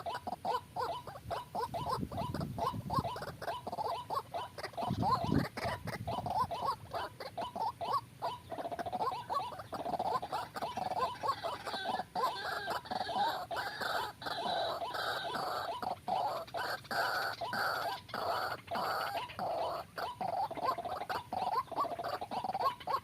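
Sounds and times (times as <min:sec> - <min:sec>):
waterhen calling: 0:00.0 - 0:23.0.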